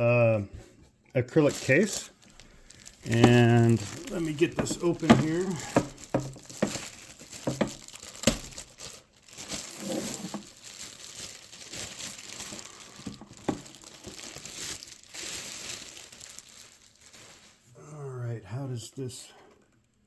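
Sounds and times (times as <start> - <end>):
plastic packaging crinkling: 1.3 - 17.7.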